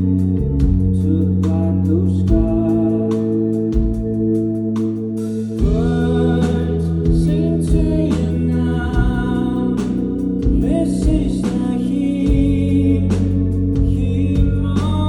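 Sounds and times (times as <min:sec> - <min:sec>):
person singing: 0:00.0 - 0:04.0, 0:05.4 - 0:15.0
live rock band: 0:00.0 - 0:15.0.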